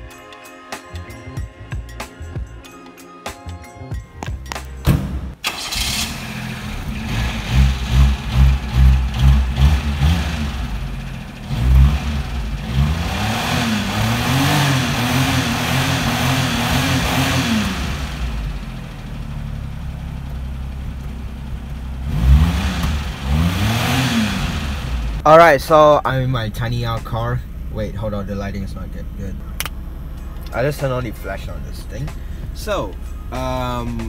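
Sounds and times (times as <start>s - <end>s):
car engine idling: 4.2s - 34.0s
car engine revving: 5.0s - 34.0s.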